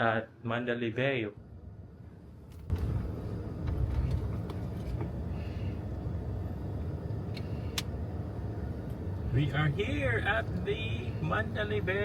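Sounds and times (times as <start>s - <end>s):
car engine and road rumble: 1.3s - 12.0s.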